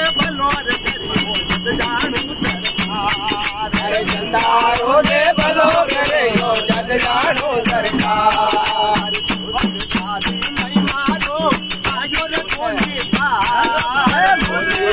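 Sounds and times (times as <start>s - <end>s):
jingling hand percussion: 0.0s - 14.9s
men singing devotional song: 0.0s - 14.9s.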